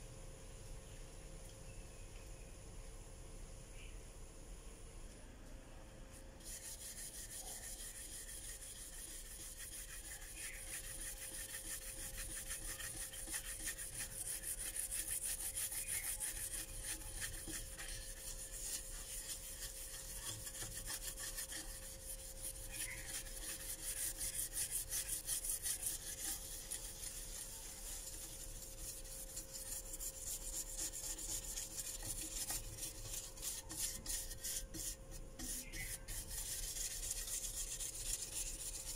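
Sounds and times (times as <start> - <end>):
hand rubbing embossed brass: 6.4 - 38.9.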